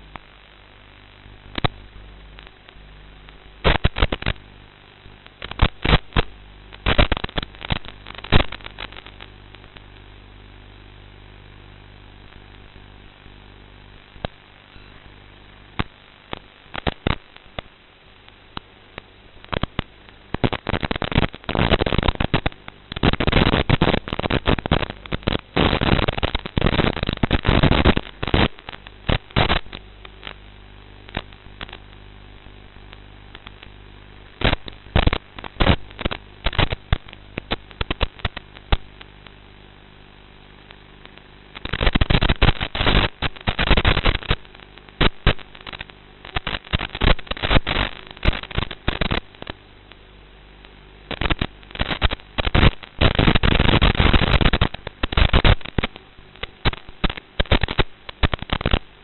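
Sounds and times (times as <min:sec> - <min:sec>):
crackling static: 0:00.0 - 0:59.0
steady electrical hum: 0:00.0 - 0:59.0.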